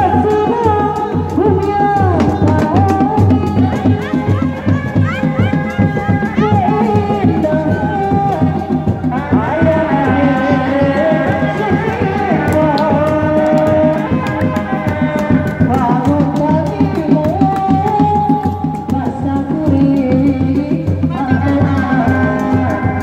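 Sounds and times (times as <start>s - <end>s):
frame drums beating: 0.0s - 23.0s
held melody line: 0.0s - 23.0s.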